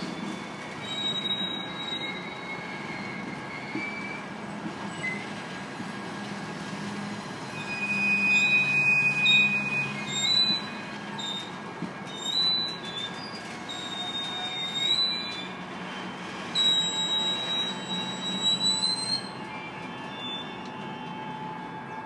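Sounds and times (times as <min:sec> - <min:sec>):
train wheels squealing: 0:00.0 - 0:05.5, 0:06.8 - 0:22.0
freight train rumbling: 0:00.0 - 0:22.0.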